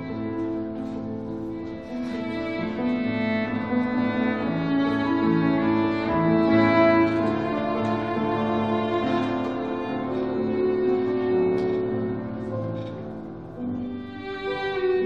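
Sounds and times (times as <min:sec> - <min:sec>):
cello bowing sustained notes: 0:00.0 - 0:15.0
piano accompaniment: 0:00.0 - 0:15.0.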